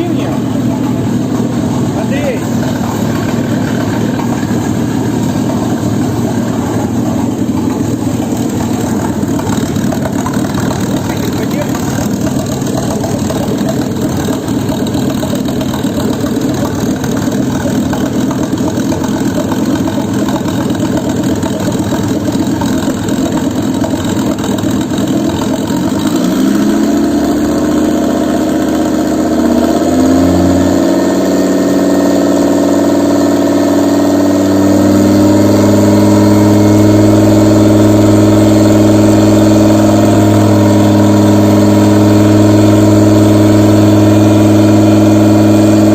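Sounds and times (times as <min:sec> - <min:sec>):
petrol engine idling and revving: 0:00.0 - 0:45.9.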